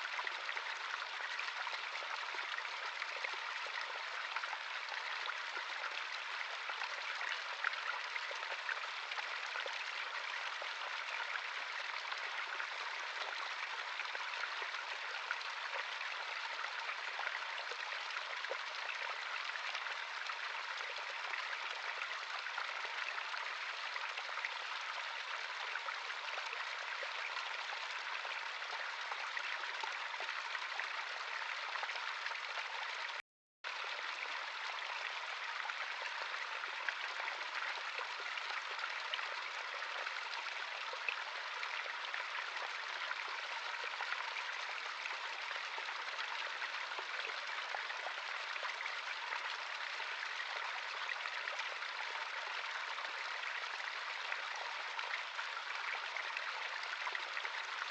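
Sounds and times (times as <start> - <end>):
stream water running: 0.0 - 57.9.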